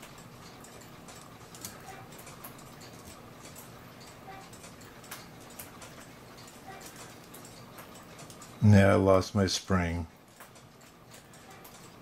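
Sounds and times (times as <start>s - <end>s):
clock mechanism ticks and clicks: 0.0s - 12.0s.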